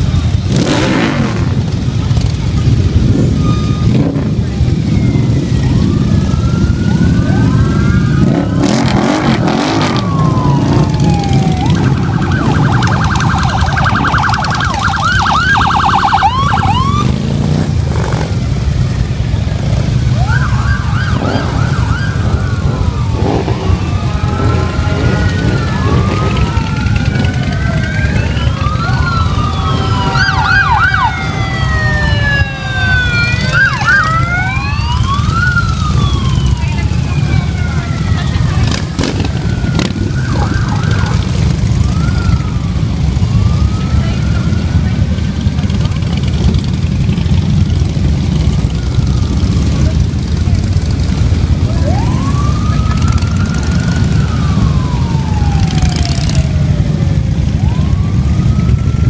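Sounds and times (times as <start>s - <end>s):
motorcycle engines rumbling: 0.0s - 59.0s
sirens wailing and yelping: 0.0s - 59.0s.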